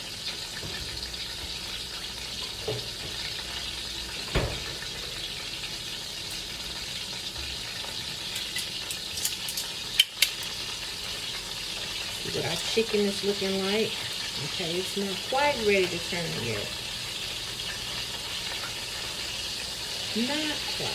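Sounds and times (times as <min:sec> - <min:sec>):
oil sizzling in a pan: 0:00.0 - 0:20.9.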